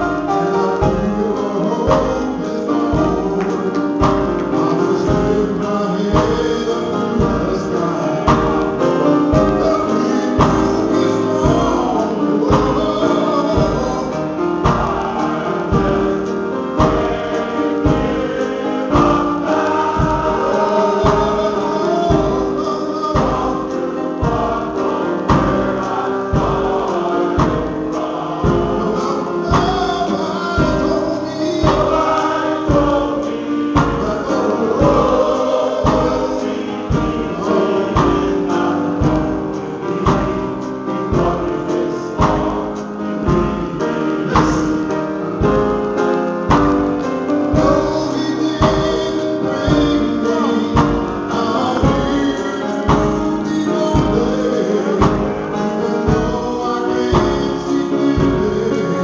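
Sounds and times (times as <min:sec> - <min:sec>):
instrumental backing with beat: 0:00.0 - 0:59.0
male choir singing: 0:00.0 - 0:59.0
man singing solo: 0:00.0 - 0:59.0.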